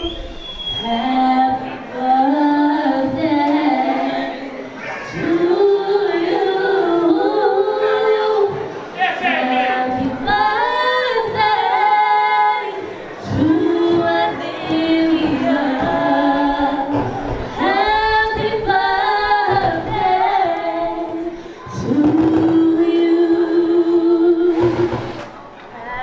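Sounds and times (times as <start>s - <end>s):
women singing unaccompanied: 0.8s - 26.0s.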